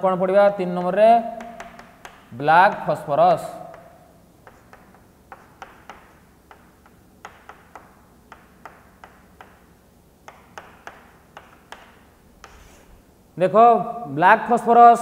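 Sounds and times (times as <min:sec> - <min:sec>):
chalk tapping on chalkboard: 0:00.7 - 0:13.0.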